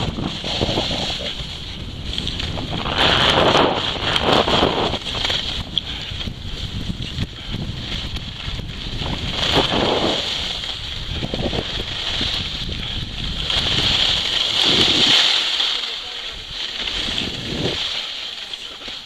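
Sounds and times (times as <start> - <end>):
wind buffeting microphone: 0.0 - 15.3, 16.2 - 18.0
skis sliding on packed snow: 0.0 - 19.0.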